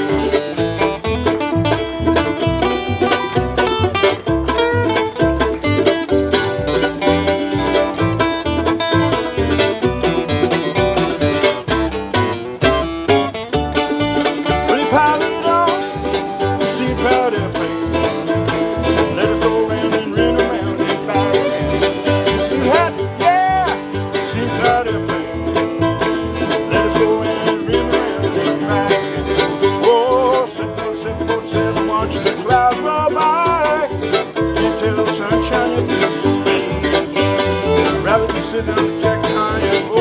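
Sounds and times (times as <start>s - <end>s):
banjo: 0.0s - 40.0s
bluegrass band playing: 0.0s - 40.0s.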